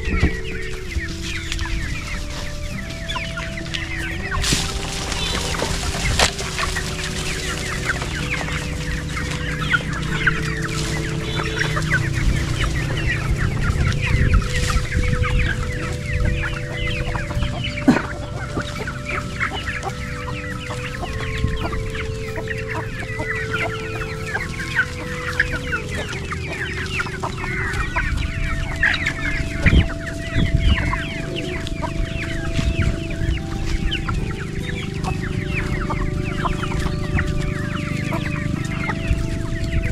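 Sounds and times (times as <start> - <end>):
chickens clucking and peeping: 0.0 - 39.9
steady held tones: 0.0 - 39.9.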